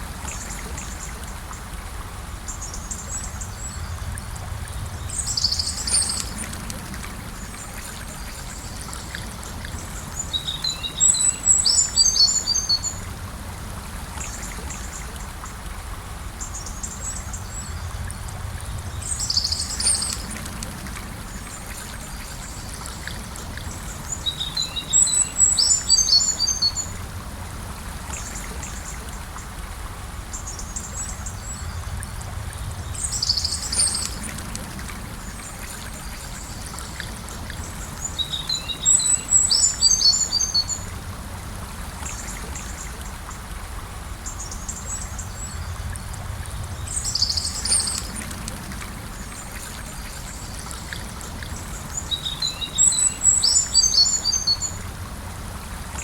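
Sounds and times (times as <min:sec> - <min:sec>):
gentle river flowing: 0:00.0 - 0:56.0.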